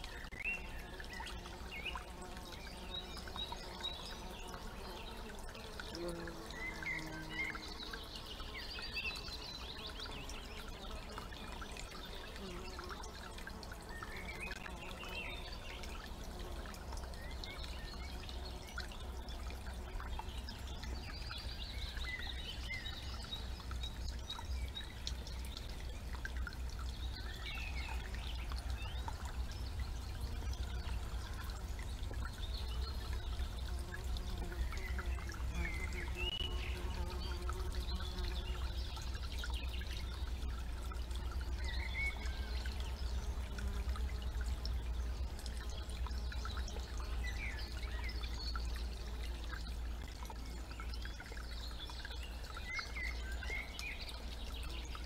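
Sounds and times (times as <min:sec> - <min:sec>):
birds chirping and warbling: 0:00.0 - 0:55.0
water trickling in a stream: 0:00.0 - 0:55.0.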